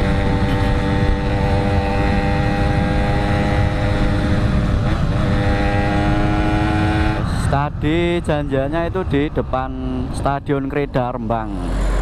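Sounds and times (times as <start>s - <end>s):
motorcycle engine running: 0.0s - 10.1s
wind noise: 0.0s - 12.0s.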